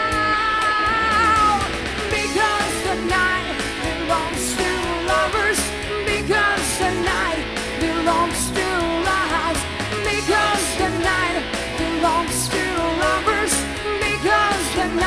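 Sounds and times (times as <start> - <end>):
rock band playing live: 0.0 - 15.0
woman singing: 0.0 - 15.0.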